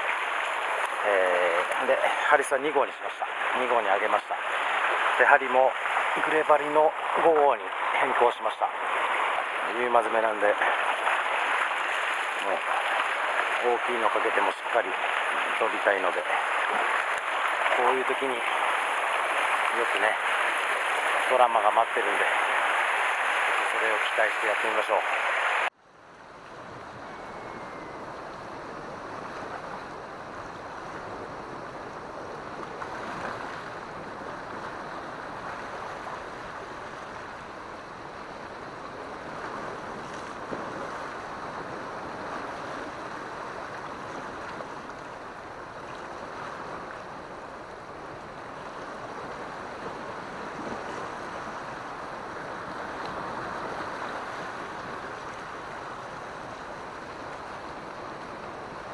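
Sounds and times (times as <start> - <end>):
sea waves on rocky shore: 0.0 - 58.9.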